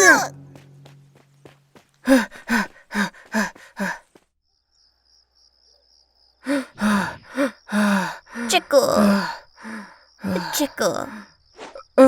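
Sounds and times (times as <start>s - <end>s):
faint high cricket trill: 0.0s - 12.0s.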